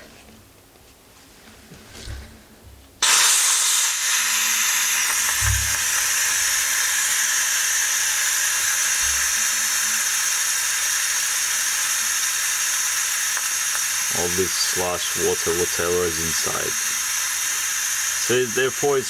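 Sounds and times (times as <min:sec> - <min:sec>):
compressed air hissing from valve: 0:03.0 - 0:19.0.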